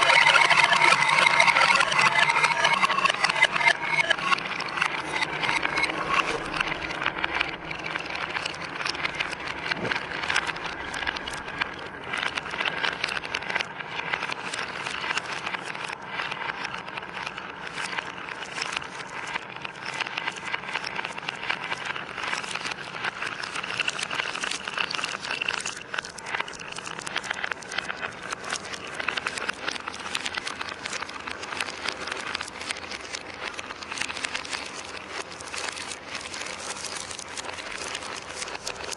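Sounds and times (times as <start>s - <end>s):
marbles rattling down a track: 0.0s - 38.9s.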